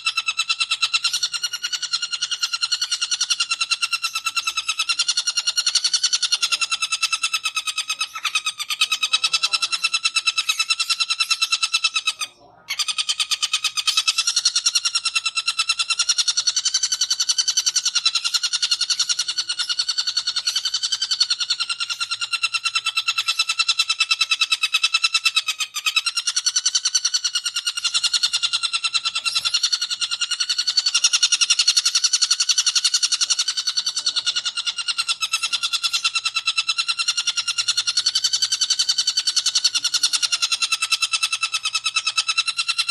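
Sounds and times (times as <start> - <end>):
bird rapid rattling chatter: 0.0 - 42.9.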